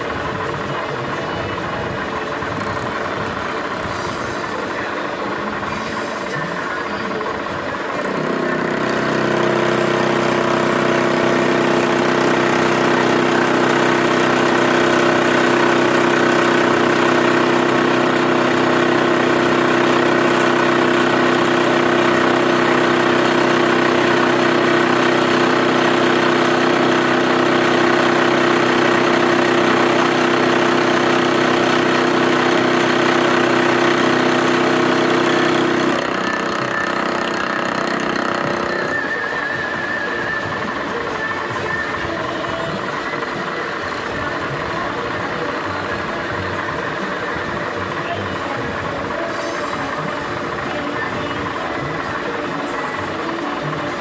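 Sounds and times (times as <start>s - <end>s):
milling machine humming: 0.0s - 54.0s.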